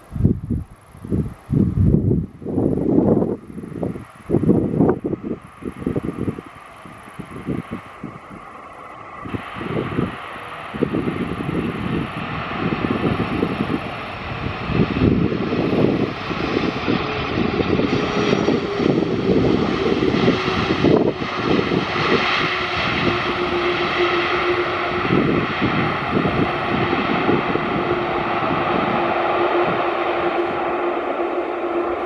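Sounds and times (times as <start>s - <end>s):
jet engine rumble: 0.0s - 32.0s
engine hum dropping in pitch: 3.1s - 32.0s.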